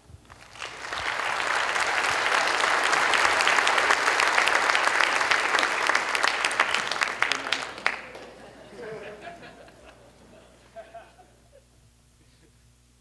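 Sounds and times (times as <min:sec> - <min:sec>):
audience applauding: 0:00.3 - 0:11.2.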